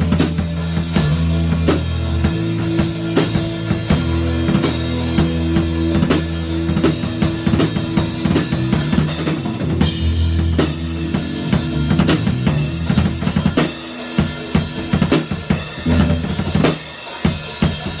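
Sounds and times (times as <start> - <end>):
electric guitar chords: 0.0 - 16.7
drum kit played hard: 0.0 - 18.0.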